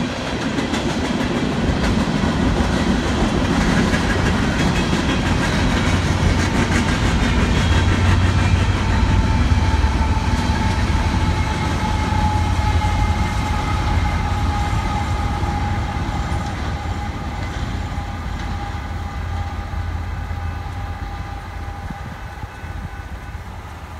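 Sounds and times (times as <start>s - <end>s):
diesel locomotives rumbling: 0.0s - 23.9s.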